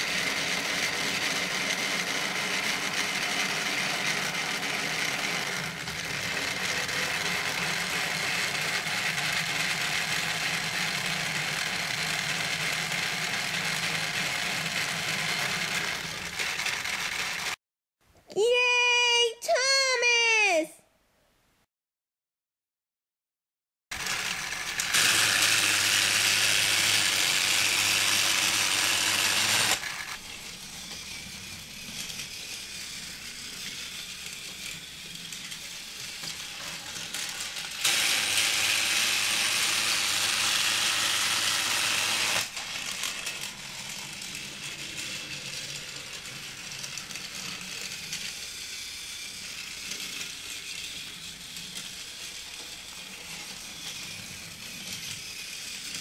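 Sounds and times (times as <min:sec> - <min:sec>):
toy train motor whirring: 0:00.0 - 0:17.6, 0:24.0 - 0:56.0.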